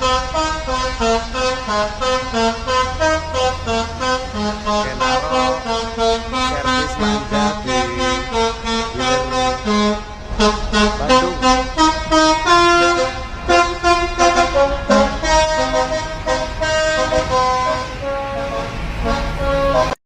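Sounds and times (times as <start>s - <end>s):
multi-tone musical bus horn: 0.0s - 20.0s.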